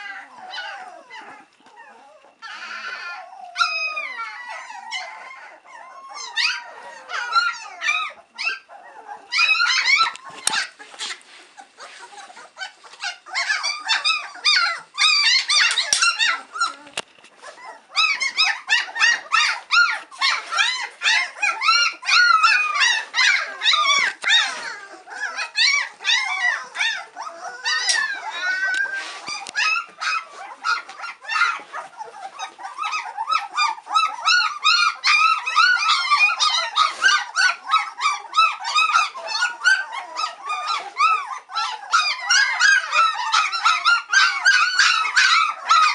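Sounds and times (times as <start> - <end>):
puppies whining and squealing: 0.0 - 45.9.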